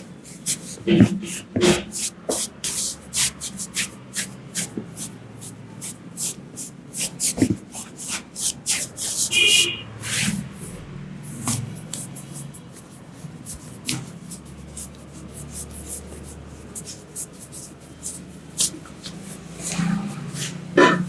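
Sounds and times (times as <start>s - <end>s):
hands brushing and slapping skin: 1.7s - 10.4s, 11.4s - 20.6s.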